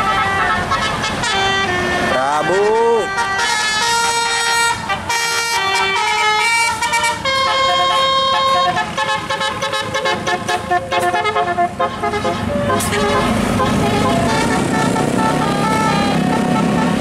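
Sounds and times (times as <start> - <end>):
musical air horn playing a tune: 0.0 - 17.0.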